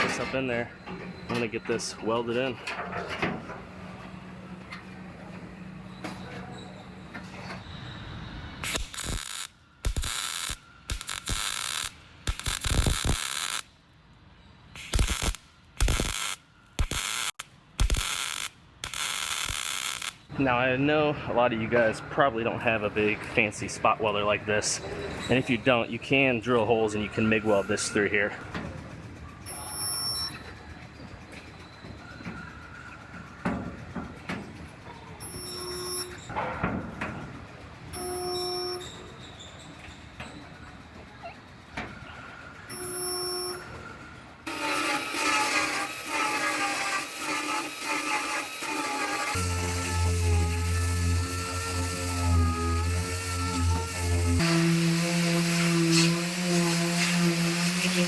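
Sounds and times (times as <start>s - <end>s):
spot welder electrical hum: 0.0s - 7.8s, 8.4s - 20.4s, 28.3s - 58.0s.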